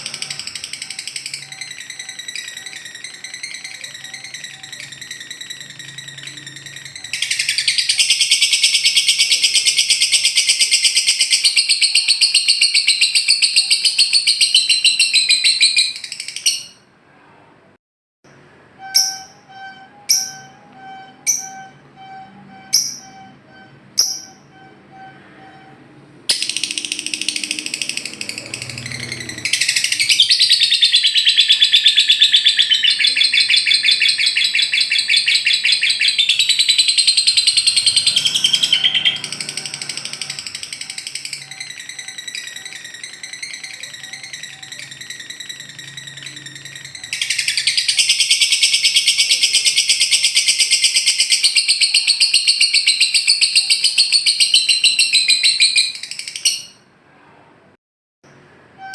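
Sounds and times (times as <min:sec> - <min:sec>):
bird chattering trills: 0:00.0 - 0:16.7, 0:26.3 - 0:56.8
bird sharp chirps: 0:00.0 - 0:16.8, 0:26.3 - 0:56.8.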